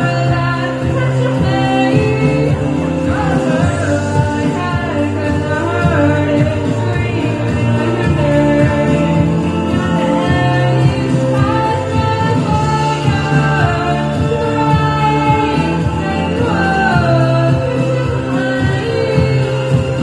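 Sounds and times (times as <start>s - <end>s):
instrumental accompaniment: 0.0s - 20.0s
woman singing into microphone: 0.0s - 20.0s.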